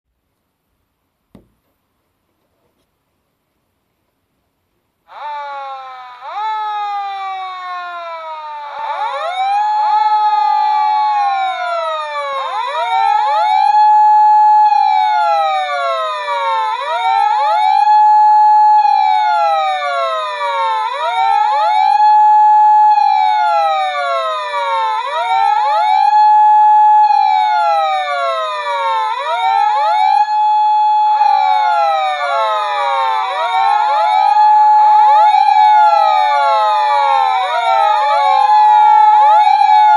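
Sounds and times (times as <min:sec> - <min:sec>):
toy police car sirens wailing: 0:05.1 - 0:39.9.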